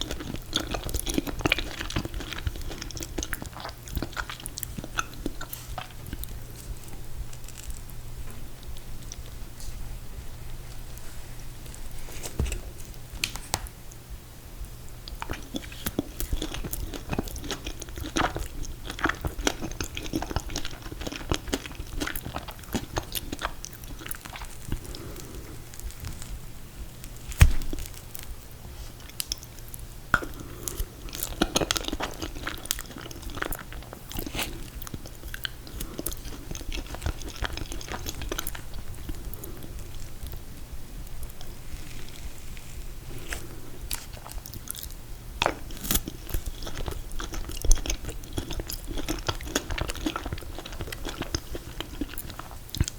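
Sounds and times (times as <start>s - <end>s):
chewing and biting ice cream cake: 0.0s - 9.4s, 15.0s - 52.9s.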